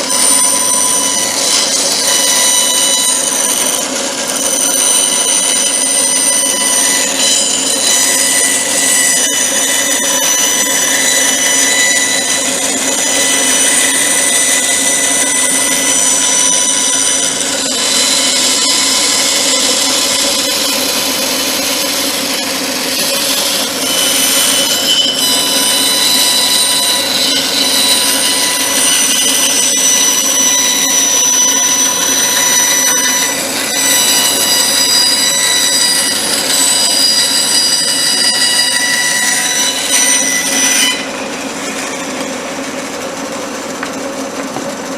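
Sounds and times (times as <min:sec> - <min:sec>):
electric power tool whining: 0:00.0 - 0:44.9.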